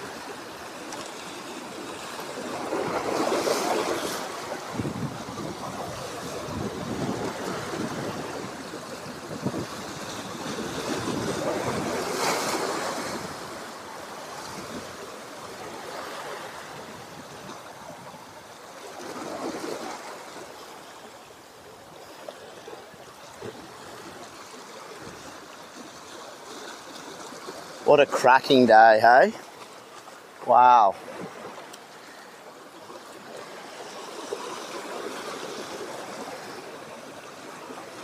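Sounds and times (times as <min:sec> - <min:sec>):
sea waves washing against rocks: 0:00.0 - 0:38.0.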